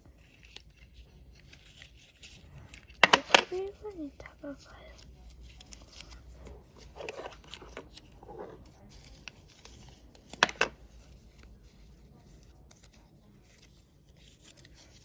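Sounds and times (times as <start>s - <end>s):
paper stickers rustling: 0.0s - 15.0s.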